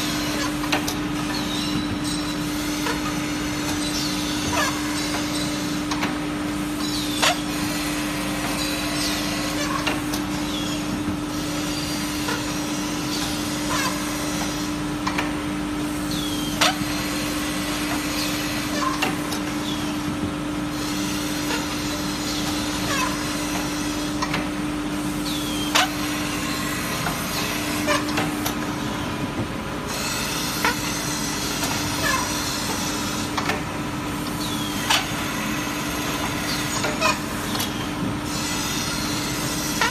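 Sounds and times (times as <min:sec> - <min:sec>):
grinding machine hum: 0:00.0 - 0:39.9.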